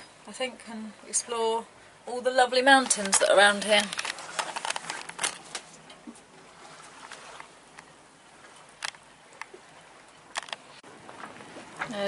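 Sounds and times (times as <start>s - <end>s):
wind and water hiss: 0.0s - 12.0s.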